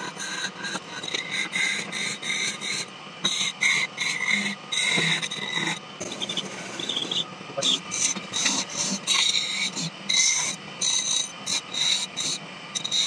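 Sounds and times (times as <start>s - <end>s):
chisel scraping on wood lathe: 0.0s - 13.0s.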